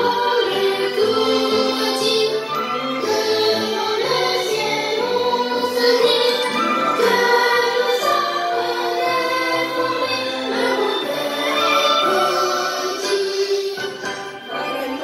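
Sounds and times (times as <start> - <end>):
choir-like music through speaker: 0.0 - 15.0.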